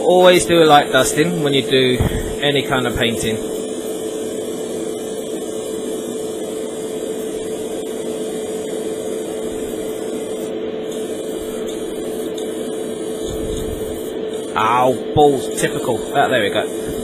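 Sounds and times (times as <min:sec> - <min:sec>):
extractor fan running: 0:00.0 - 0:17.0.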